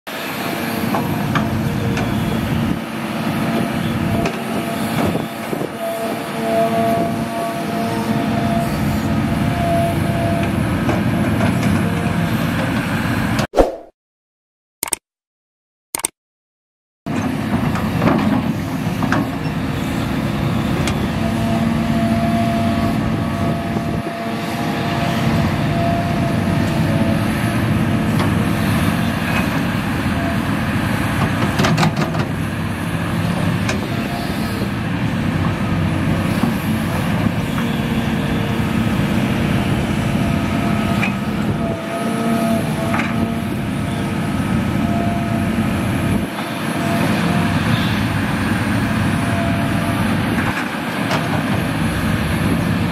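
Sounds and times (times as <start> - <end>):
excavator diesel engine: 0.1 - 13.4, 17.1 - 52.9.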